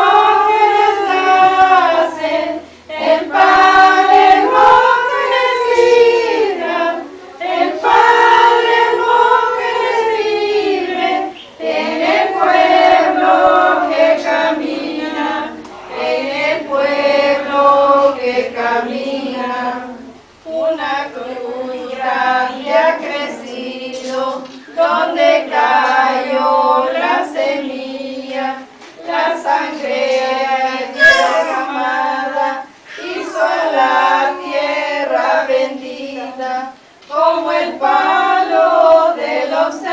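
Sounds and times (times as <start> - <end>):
women and girls singing a hymn: 0.0 - 39.9.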